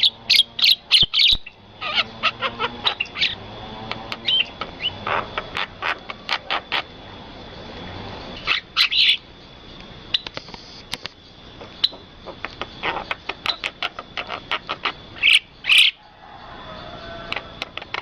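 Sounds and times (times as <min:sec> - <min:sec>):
birds chirping: 0:00.0 - 0:18.0
harsh bird calls: 0:00.0 - 0:18.0.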